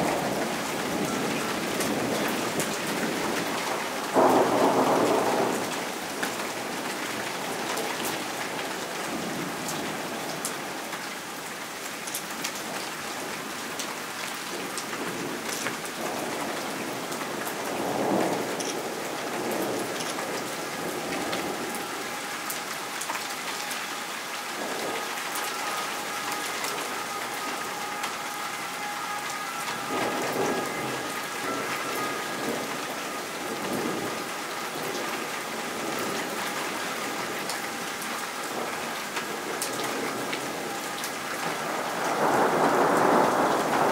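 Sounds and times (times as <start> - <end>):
thunder rumbling: 0.0 - 10.4, 14.6 - 43.9
steady rain falling: 0.0 - 43.9.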